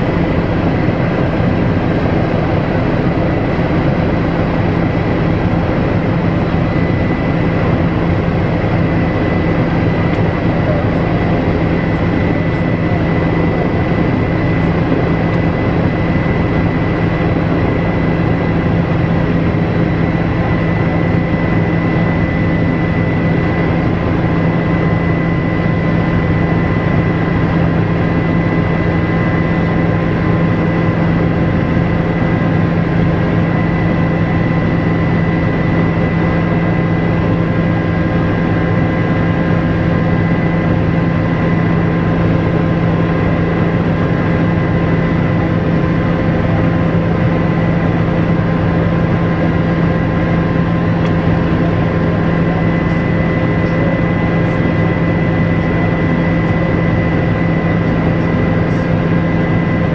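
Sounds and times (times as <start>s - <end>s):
helicopter engine and rotor drone: 0.0s - 59.9s
high turbine whine: 0.0s - 59.9s.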